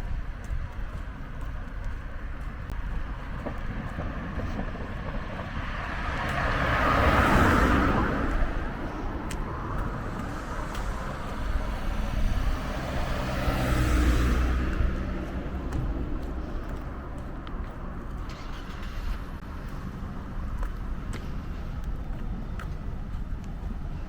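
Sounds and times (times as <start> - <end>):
low traffic rumble: 0.0 - 24.0
car passing: 2.4 - 24.0.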